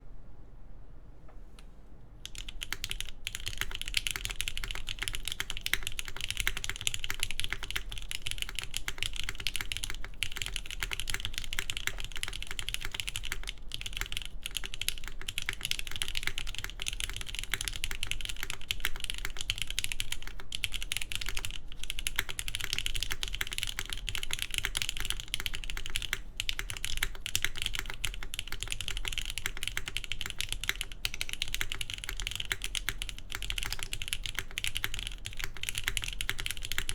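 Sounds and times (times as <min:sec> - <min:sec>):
fast typing on mechanical keyboard: 0:02.2 - 0:36.9.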